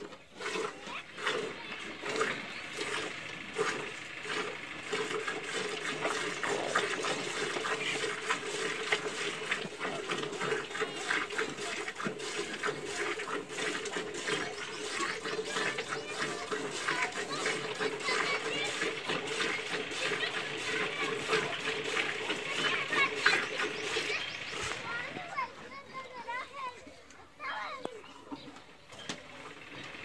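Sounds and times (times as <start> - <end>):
milk squirting into pail: 0.0 - 25.4.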